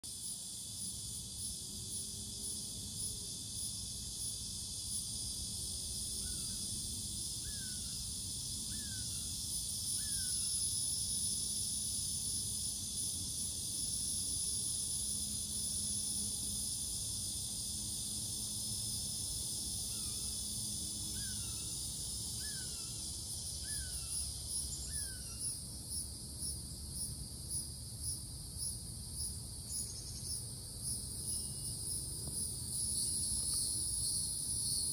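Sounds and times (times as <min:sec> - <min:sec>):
high-pitched insect chorus: 0:00.1 - 0:34.9.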